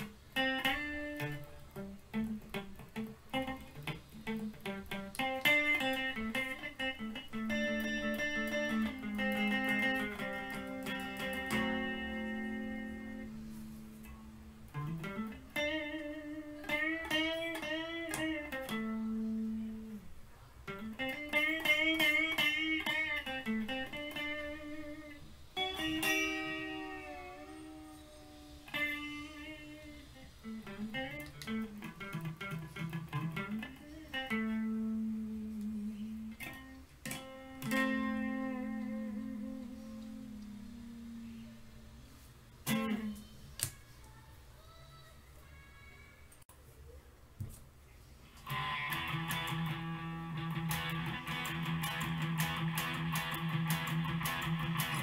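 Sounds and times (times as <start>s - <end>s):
electric guitar lead: 0.0s - 41.8s, 42.6s - 43.3s, 48.3s - 55.0s.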